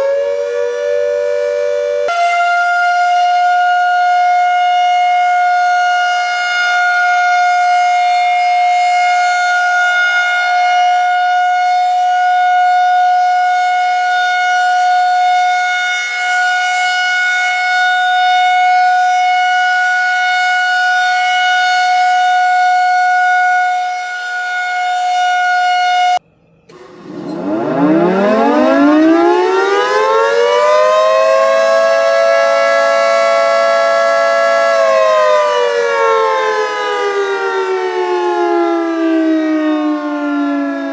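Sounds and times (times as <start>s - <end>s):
siren winding up and down: 0.0s - 40.9s
steady high siren tone: 0.0s - 40.9s.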